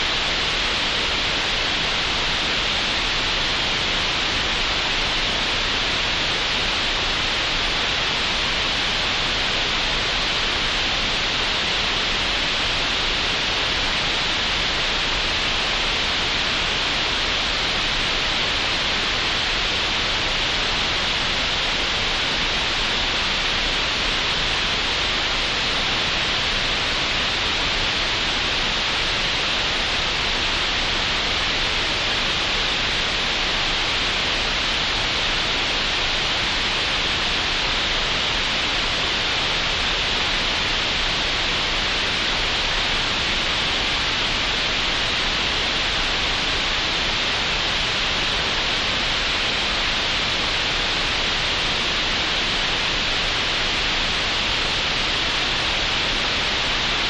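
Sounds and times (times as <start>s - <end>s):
steady green noise hiss: 0.0s - 57.0s.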